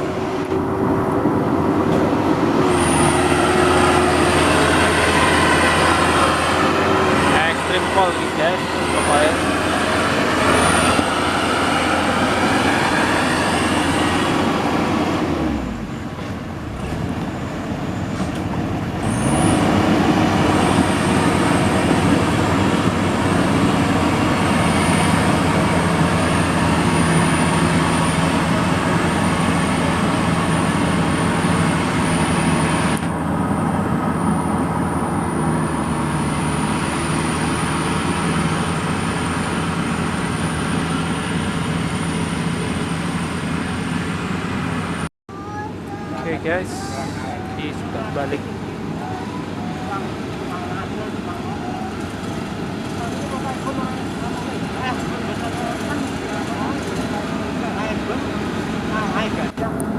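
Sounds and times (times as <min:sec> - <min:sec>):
combine harvester engine running: 0:00.0 - 0:45.1, 0:45.8 - 0:59.9.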